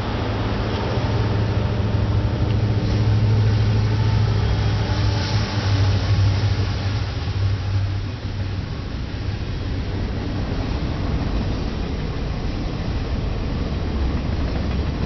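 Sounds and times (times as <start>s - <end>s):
diesel locomotive engine droning: 0.0s - 15.0s.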